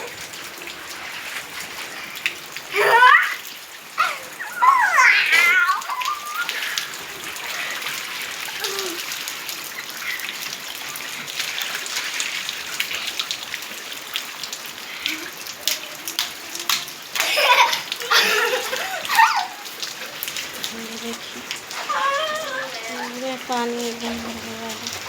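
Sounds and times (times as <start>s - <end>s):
drips splashing into floodwater: 0.0s - 25.0s
heavy rain falling: 0.0s - 25.0s.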